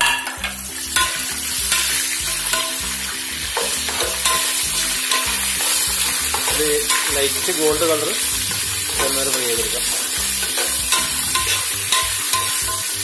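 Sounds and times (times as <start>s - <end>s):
nuts sizzling in oil: 0.0s - 13.0s
spoon scraping and clinking pot: 0.0s - 13.0s.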